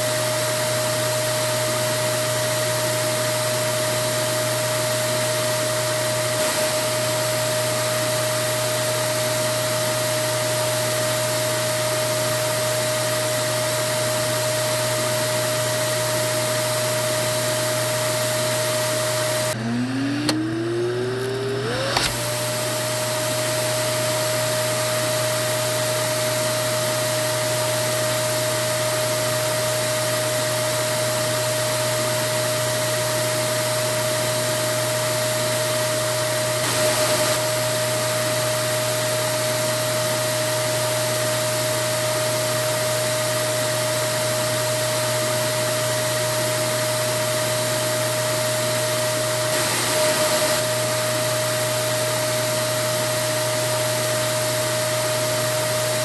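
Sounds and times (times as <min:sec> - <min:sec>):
vacuum cleaner motor whining: 0:00.0 - 0:56.0.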